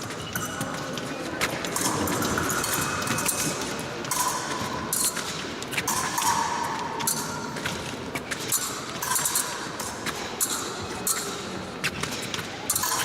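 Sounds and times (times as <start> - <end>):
fencing blades clicking and clanking: 0.0 - 13.0.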